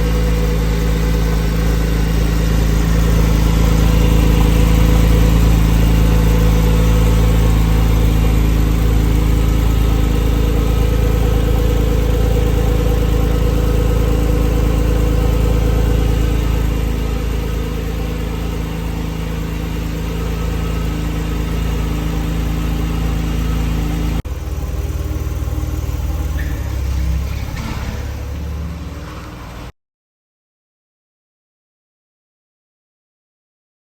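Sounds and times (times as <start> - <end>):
car engine idling: 0.0 - 29.7.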